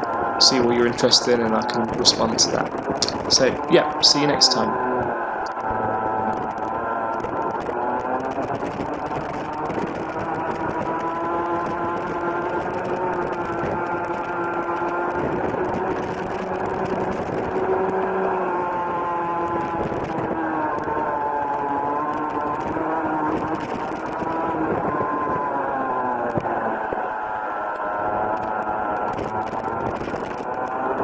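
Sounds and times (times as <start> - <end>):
kart engine revving: 0.0 - 31.0.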